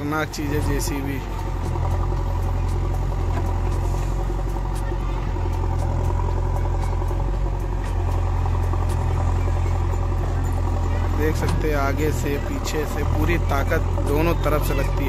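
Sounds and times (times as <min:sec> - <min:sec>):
diesel engine running at high power: 0:00.0 - 0:15.0.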